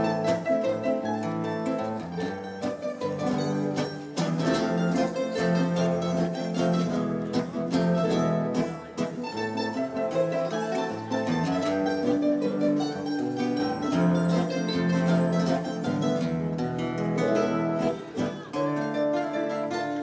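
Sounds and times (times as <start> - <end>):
charango playing a waltz: 0.0 - 20.0.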